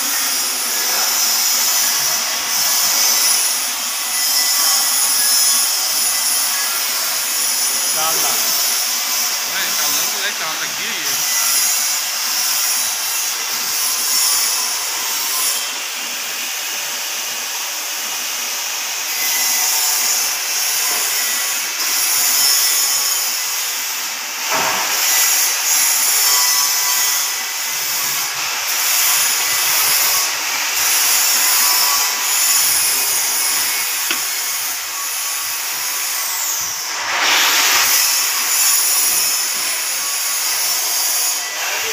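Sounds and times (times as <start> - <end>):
metal lathe machining hiss: 0.0 - 41.9.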